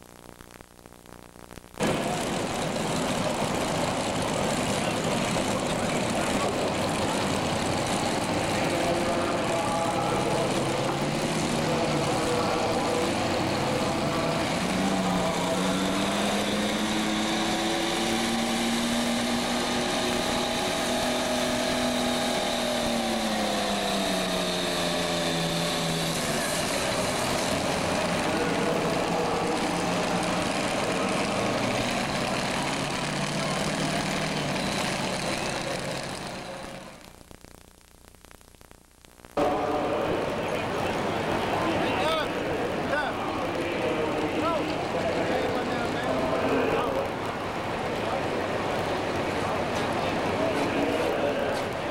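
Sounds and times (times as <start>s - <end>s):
diesel engine running hard: 1.8s - 37.1s, 39.4s - 51.9s.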